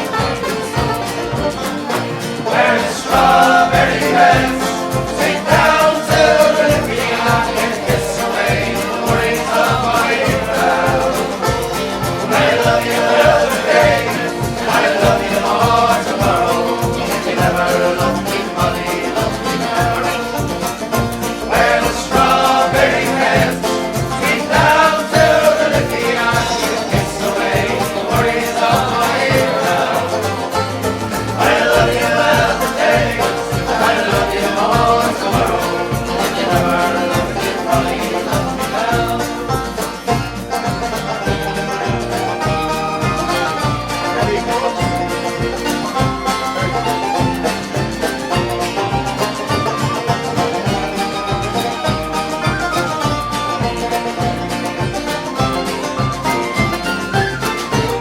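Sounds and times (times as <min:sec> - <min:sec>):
steady beat: 0:00.0 - 0:58.0
strummed guitar: 0:00.0 - 0:58.0
voices singing together: 0:00.0 - 0:58.0.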